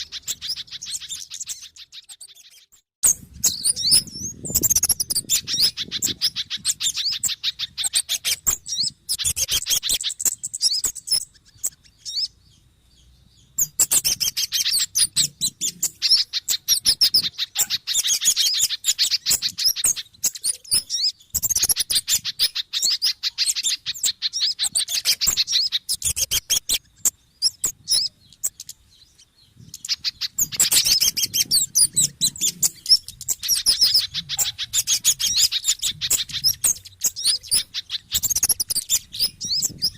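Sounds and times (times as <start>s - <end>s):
rapid high bird chirping: 0.0s - 39.9s.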